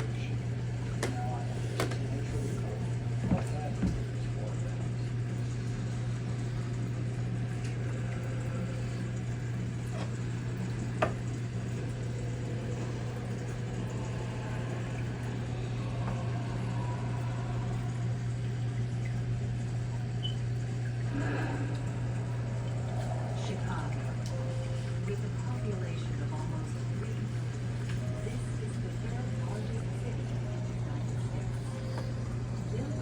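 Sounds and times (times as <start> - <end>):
aquarium pump humming: 0.0 - 33.0
bubbling water: 0.0 - 33.0.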